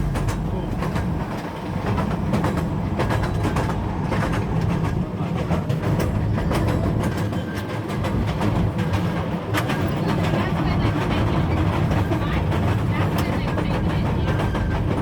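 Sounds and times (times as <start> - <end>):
train rumble: 0.0 - 15.0
wheels clacking on track: 0.0 - 15.0.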